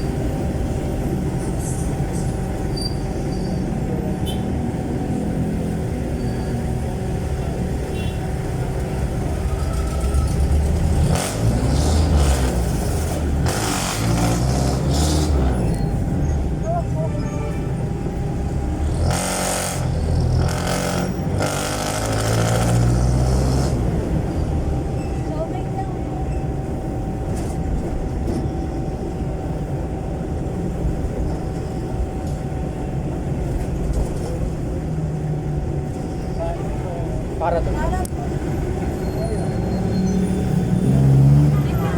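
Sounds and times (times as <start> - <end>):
diesel engine running loud: 0.0 - 33.6.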